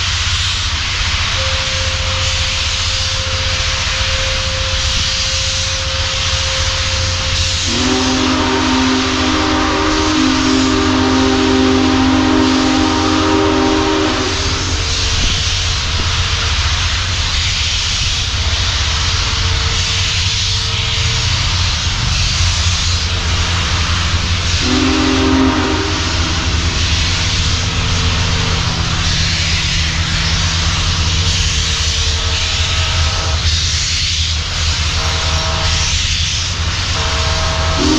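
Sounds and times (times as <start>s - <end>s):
steam locomotive rumble and hiss: 0.0s - 37.9s
steam whistle: 1.2s - 16.5s, 19.1s - 37.9s.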